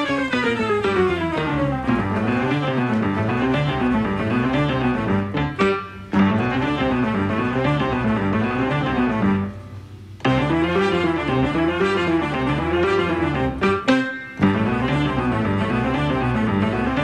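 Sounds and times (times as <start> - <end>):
instrumental music with low strings: 0.0 - 17.0.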